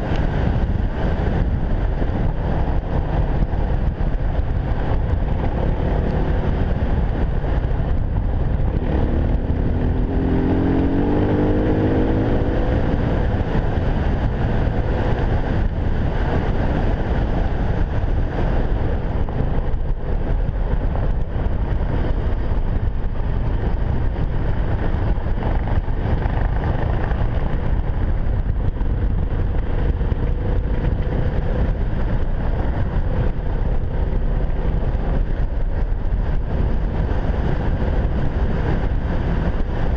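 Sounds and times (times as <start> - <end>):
dirt bike engine running: 0.0 - 39.9
wind buffeting microphone: 0.0 - 39.9.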